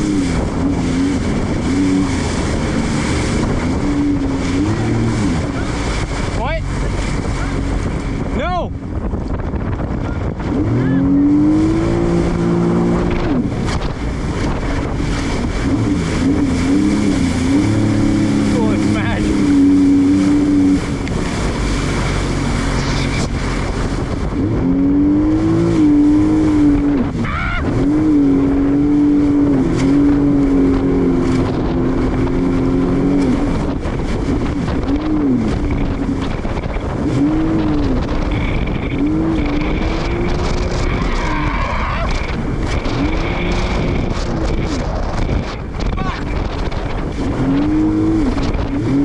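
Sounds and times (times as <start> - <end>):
jet ski engine running hard: 0.0 - 49.0
wind and water rushing: 0.0 - 49.0.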